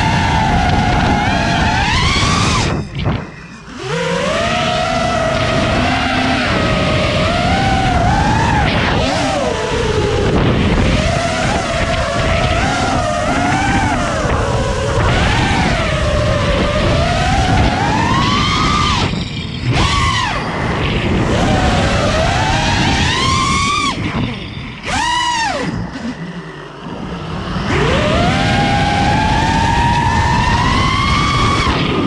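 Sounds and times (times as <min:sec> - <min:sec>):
quadcopter motors whining: 0:00.0 - 0:32.0.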